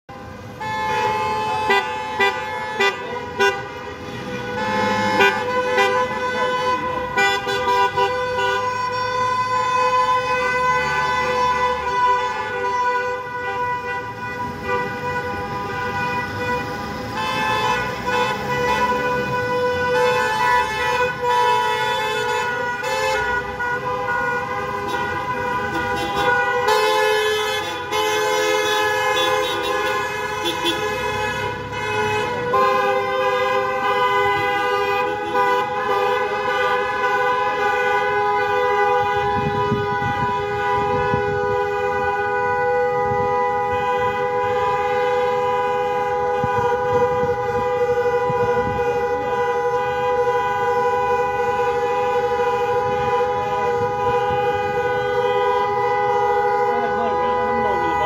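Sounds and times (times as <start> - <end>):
many car horns honking: 0.1 - 58.0.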